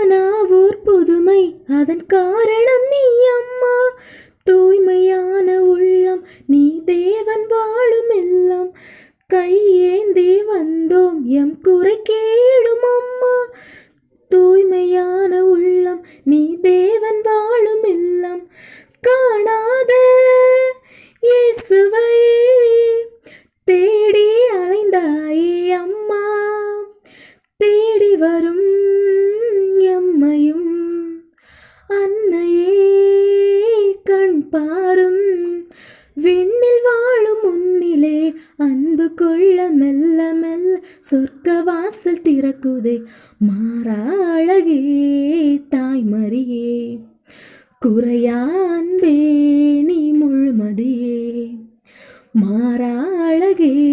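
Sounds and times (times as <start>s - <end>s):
woman singing unaccompanied: 0.0s - 53.9s.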